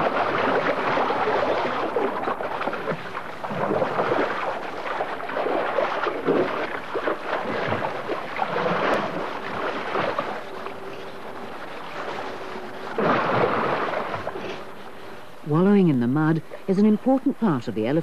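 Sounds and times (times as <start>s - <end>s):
elephants splashing in muddy water: 0.0s - 14.7s.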